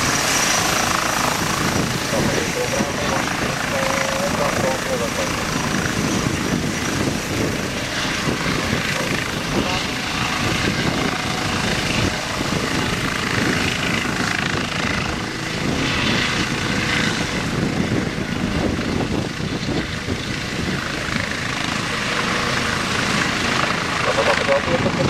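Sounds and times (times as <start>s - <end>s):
helicopter rotor beating: 0.0s - 25.0s
helicopter turbine whine: 0.0s - 25.0s.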